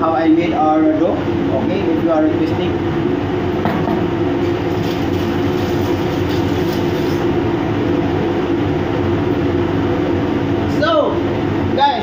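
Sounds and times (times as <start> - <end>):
loud machinery hum: 0.0 - 12.0.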